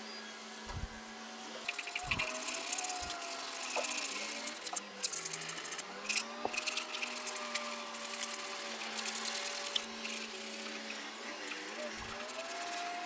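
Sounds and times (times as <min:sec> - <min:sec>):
sandpaper rasping on wood: 0:01.7 - 0:13.0.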